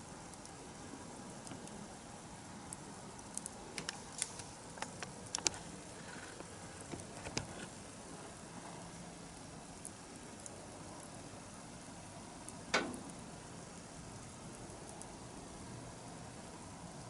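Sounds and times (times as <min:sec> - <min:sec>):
bonfire crackling: 0:00.0 - 0:17.0
soft steady hiss: 0:00.0 - 0:17.0.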